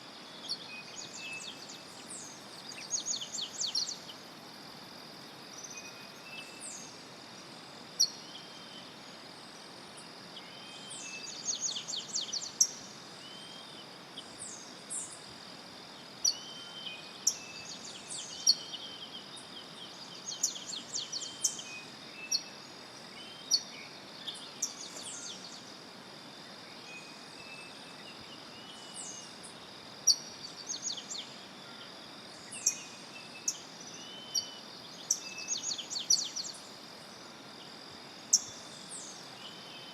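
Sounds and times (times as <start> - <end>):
faint hiss: 0.0 - 39.9.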